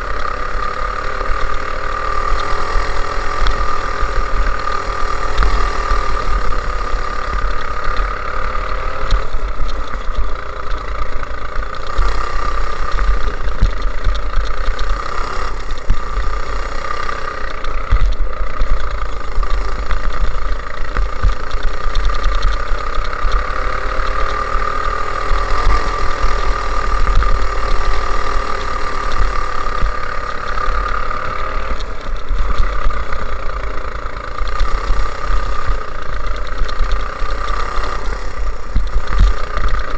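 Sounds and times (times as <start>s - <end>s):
go-kart engine running: 0.0s - 39.9s
steady low rumble: 0.0s - 39.9s.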